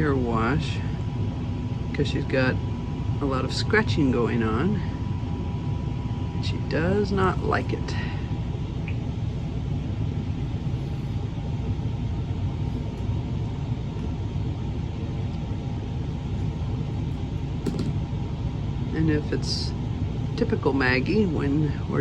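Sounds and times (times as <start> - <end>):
low rumbling hum: 0.0 - 22.0.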